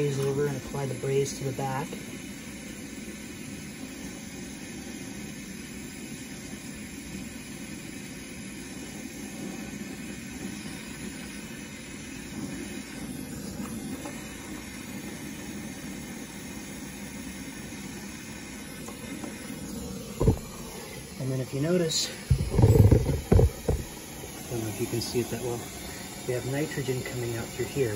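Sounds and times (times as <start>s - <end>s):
torch flame rushing: 0.0s - 27.9s.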